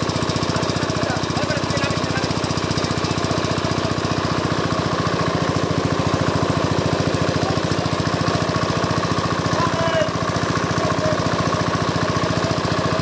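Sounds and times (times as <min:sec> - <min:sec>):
pump engine running: 0:00.0 - 0:13.0.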